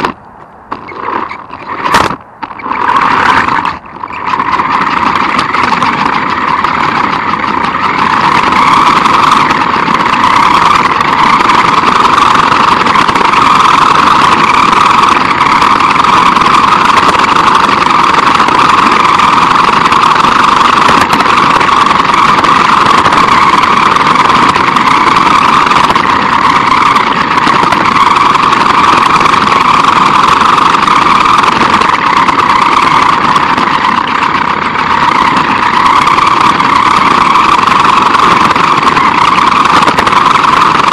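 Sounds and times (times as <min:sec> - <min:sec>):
rc car motor whine: 0:00.0 - 0:40.9
tyre road noise: 0:00.0 - 0:40.9.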